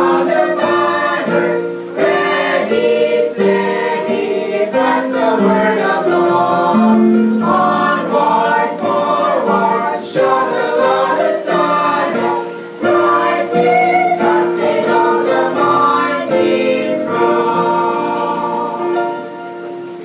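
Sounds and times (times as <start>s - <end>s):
mixed choir singing a hymn: 0.0s - 20.0s.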